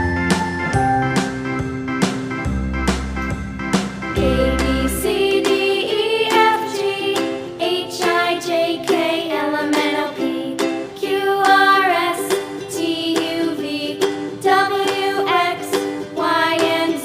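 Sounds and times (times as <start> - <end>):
background music with plucked notes: 0.0 - 17.0.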